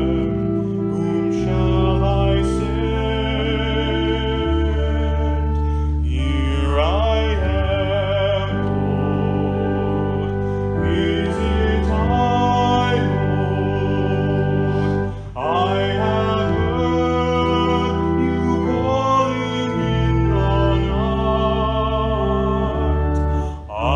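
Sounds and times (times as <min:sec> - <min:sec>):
held accompaniment chords: 0:00.0 - 0:23.9
person singing with vibrato: 0:00.0 - 0:23.9.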